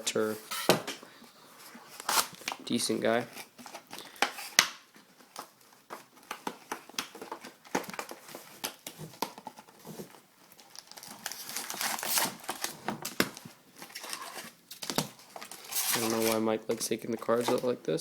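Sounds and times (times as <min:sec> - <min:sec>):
card wrappers crinkling: 0:01.9 - 0:17.9.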